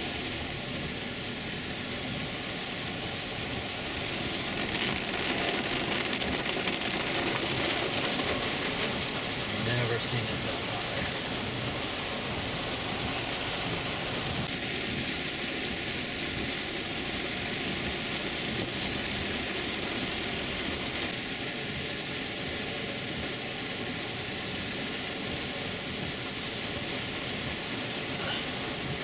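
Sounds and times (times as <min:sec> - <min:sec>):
heavy rain on car roof: 0:00.0 - 0:29.0.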